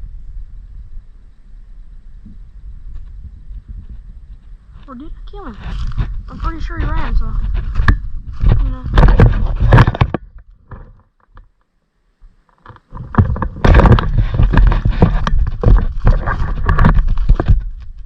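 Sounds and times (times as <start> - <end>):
rustling and crackling undergrowth: 0.0 - 18.0.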